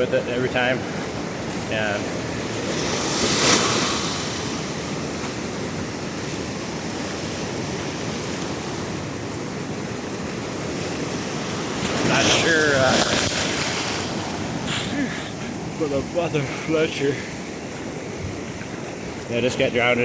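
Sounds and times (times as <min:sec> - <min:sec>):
surf washing up beach: 0:00.0 - 0:20.0
wave breaking: 0:00.7 - 0:09.6, 0:10.3 - 0:19.2.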